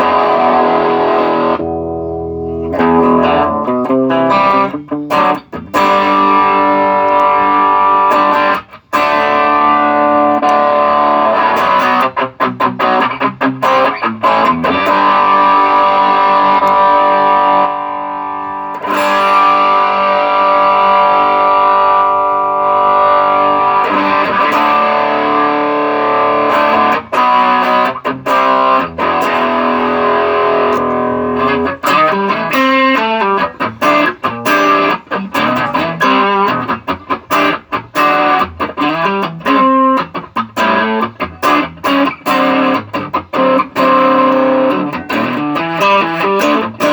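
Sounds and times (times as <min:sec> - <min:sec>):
overdriven electric guitar: 0:00.0 - 0:46.9.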